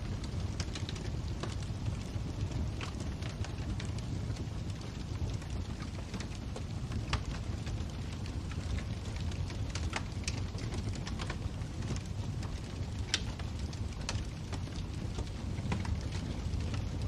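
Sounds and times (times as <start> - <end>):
fire flames rumbling: 0.0 - 17.0
wood fire crackling: 0.0 - 17.0.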